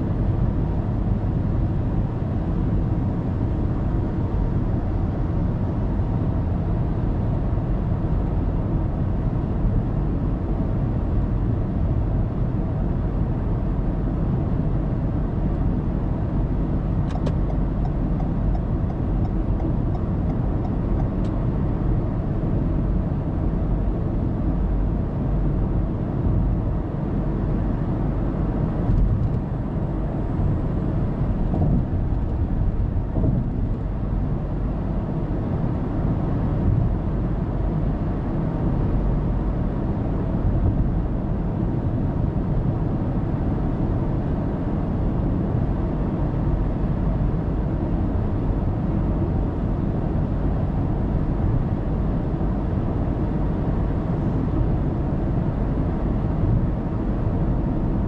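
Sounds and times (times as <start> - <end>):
car tyre and engine rumble: 0.0 - 58.0.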